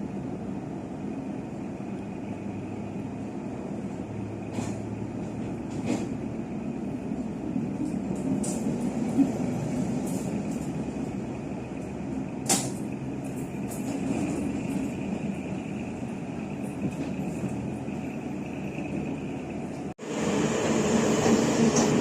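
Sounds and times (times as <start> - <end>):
train rumbling and hissing: 0.0 - 22.0.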